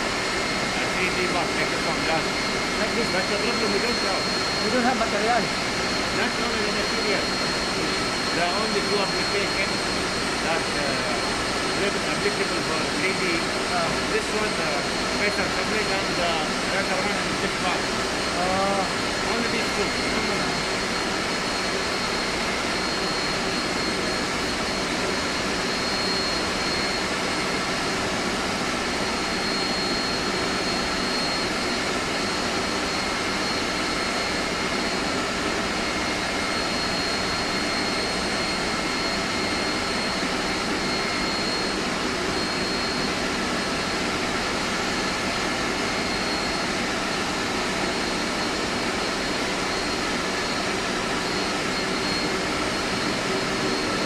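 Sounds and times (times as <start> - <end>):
faint high whine: 0.0 - 54.0
machinery hum and hiss: 0.0 - 54.0.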